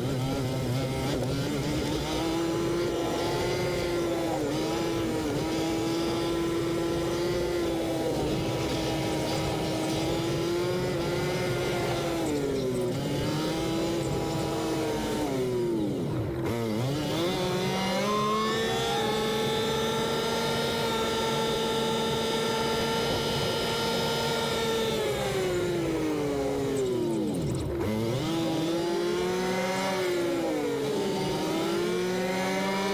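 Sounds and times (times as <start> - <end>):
road noise: 0.0 - 32.9
vehicle engine revving: 0.0 - 32.9.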